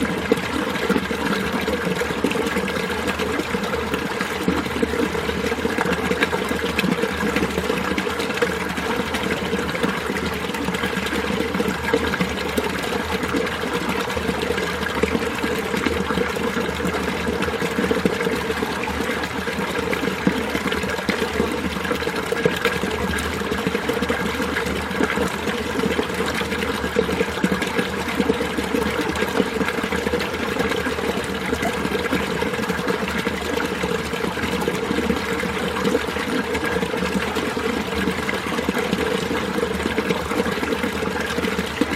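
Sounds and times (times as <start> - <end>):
stream babbling over rocks: 0.0 - 41.9.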